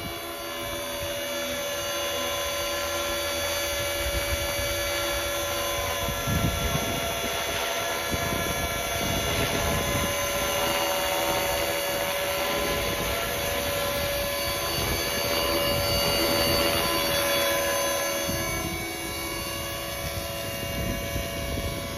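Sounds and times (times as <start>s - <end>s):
electric motor and gears whining: 0.0s - 21.9s
rotor blades whirring: 0.0s - 21.9s.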